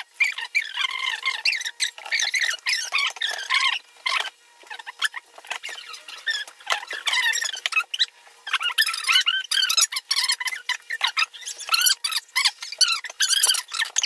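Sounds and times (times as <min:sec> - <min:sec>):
high-pitched squeaky chatter: 0:00.2 - 0:14.0.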